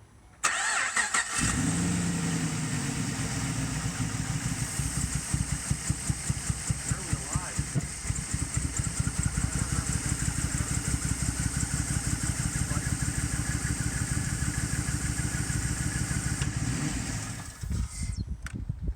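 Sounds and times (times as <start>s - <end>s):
engine idling roughly: 0.5s - 18.1s.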